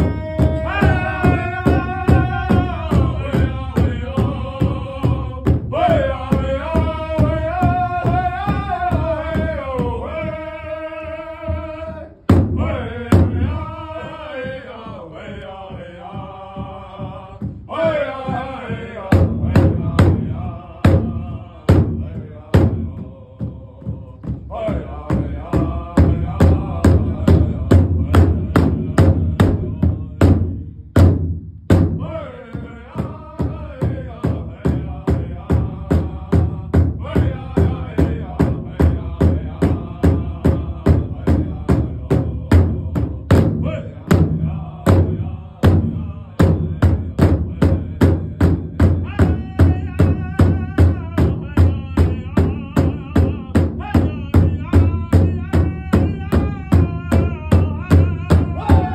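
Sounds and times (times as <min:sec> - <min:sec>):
men singing chanted phrases: 0:00.0 - 0:30.7, 0:32.0 - 0:58.9
steady drum beat: 0:00.0 - 0:58.9.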